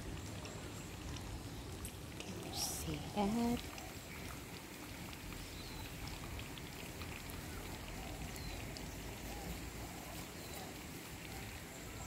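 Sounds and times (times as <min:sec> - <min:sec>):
water pattering and splashing: 0:00.0 - 0:12.0.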